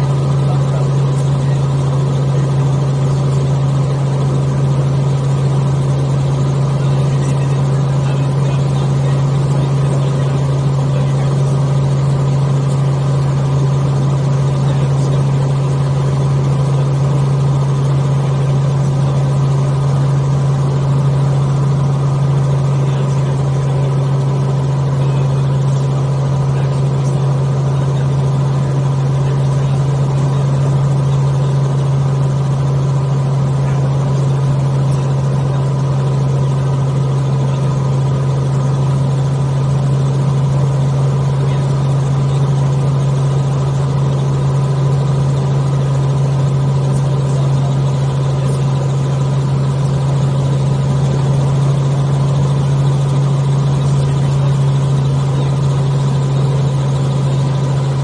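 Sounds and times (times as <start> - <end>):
helicopter engine and rotors drone: 0.0 - 58.0.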